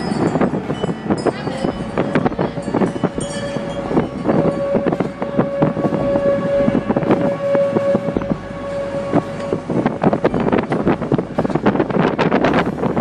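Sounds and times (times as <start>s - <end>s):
tornado warning siren: 0.0s - 12.4s
tornado rumbling roar: 0.0s - 13.0s
wind gusting on microphone: 0.0s - 13.0s.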